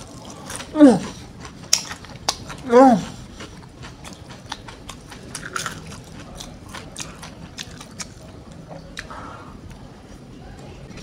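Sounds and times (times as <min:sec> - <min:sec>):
chewing crispy fried chicken: 0:00.0 - 0:10.2.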